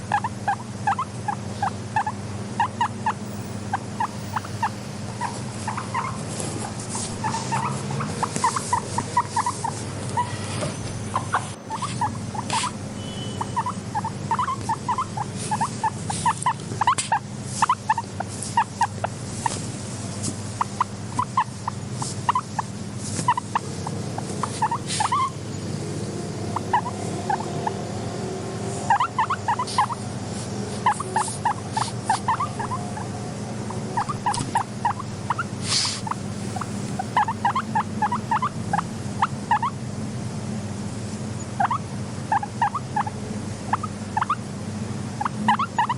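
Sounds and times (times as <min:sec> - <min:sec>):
guinea pig squeaking: 0:00.0 - 0:25.4, 0:26.6 - 0:27.8, 0:28.8 - 0:39.8, 0:41.4 - 0:44.5, 0:45.2 - 0:45.9
steady low hum: 0:00.0 - 0:45.9.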